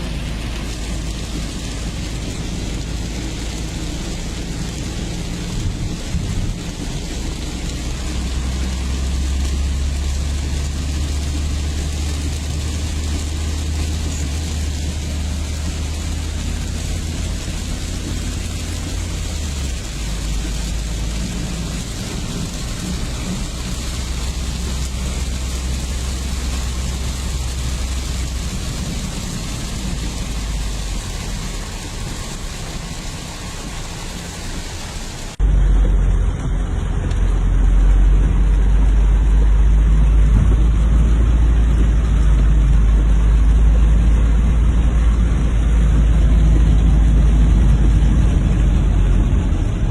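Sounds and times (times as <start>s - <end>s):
deep low rumble: 0.0s - 49.9s
torrential rain: 0.0s - 49.9s.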